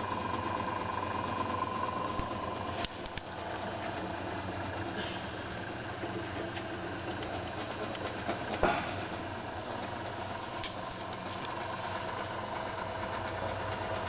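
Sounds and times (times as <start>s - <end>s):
pump machine hum with hiss: 0.0s - 14.0s.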